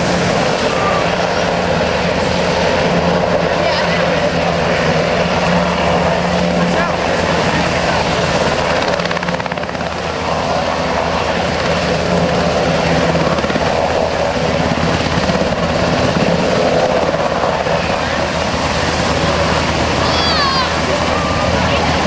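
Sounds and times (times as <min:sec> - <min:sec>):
helicopter rotor chop and engine: 0:00.0 - 0:22.0.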